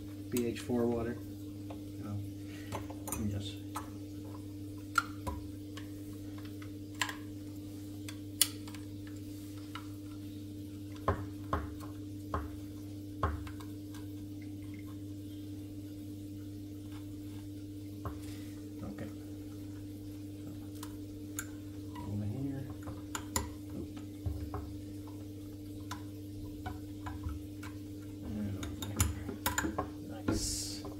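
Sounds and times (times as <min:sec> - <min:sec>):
aquarium equipment humming: 0:00.0 - 0:30.9.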